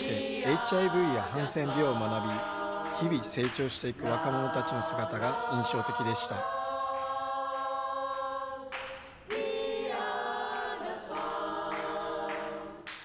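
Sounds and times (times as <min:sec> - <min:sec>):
choir singing long chords: 0:00.0 - 0:13.0.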